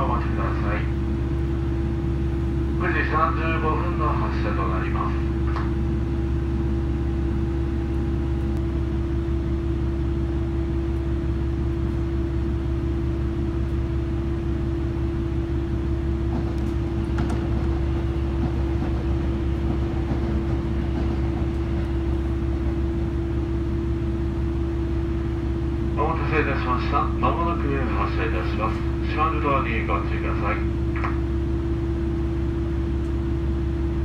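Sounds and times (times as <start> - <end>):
train machinery humming: 0.0 - 34.0.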